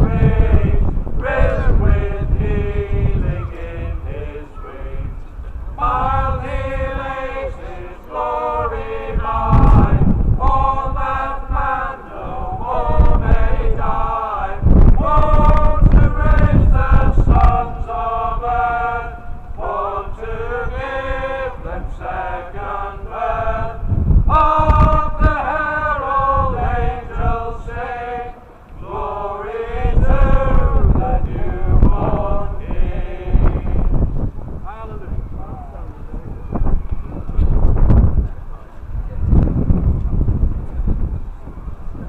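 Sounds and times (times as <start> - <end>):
wind on microphone: 0.0 - 42.0.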